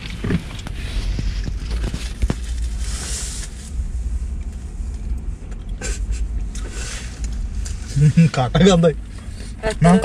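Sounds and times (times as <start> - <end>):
low rumble in car cabin: 0.0 - 10.0.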